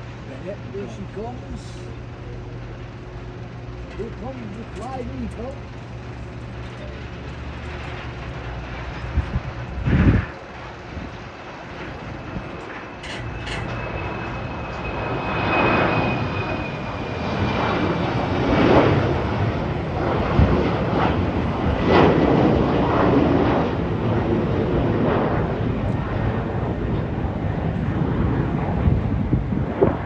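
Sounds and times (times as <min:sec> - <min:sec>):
jet engines roaring: 0:00.0 - 0:30.0
thin high engine whine: 0:00.0 - 0:30.0.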